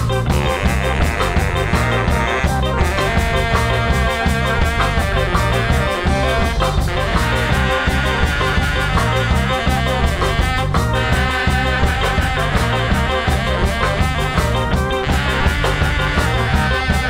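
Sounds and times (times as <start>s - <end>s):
live band playing instrumental: 0.0s - 17.0s
saxophone leading: 0.0s - 17.0s.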